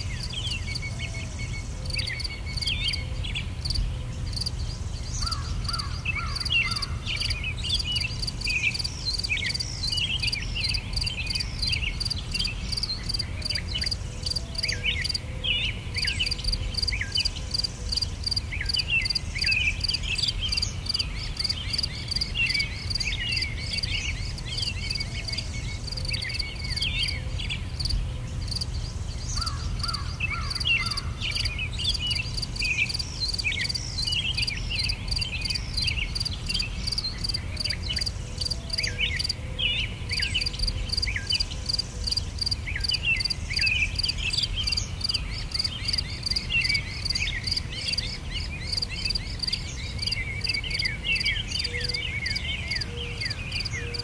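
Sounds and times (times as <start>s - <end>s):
bird chirps: 0.0s - 54.0s
insect chorus: 0.0s - 54.0s.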